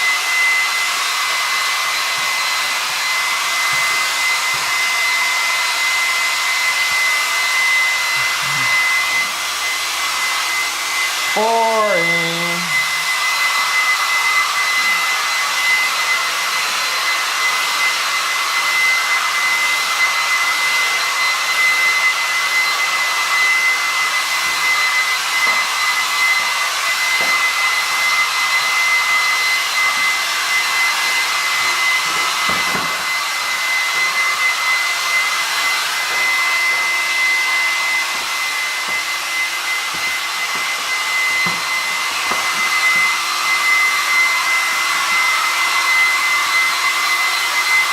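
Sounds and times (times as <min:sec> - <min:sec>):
hair dryer running: 0:00.0 - 0:47.9.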